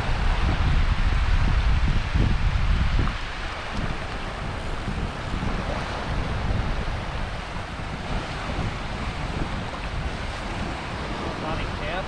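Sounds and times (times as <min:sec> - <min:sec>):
small waves washing on beach: 0:00.0 - 0:12.0
wind buffeting microphone: 0:00.0 - 0:12.0.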